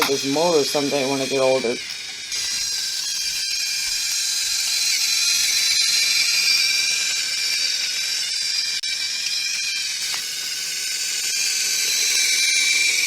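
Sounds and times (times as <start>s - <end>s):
toy train motor whining: 0.0s - 13.0s.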